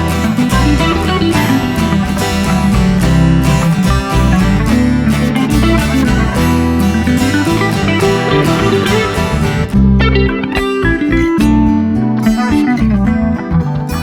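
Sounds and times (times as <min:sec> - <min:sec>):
guitar background music: 0:00.0 - 0:14.0.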